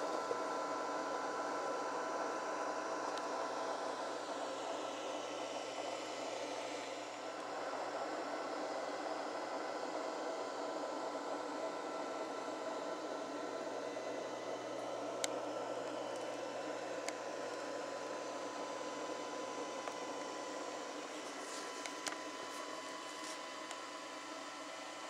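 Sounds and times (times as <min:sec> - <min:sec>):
fan-like whirring hiss: 0:00.0 - 0:25.0.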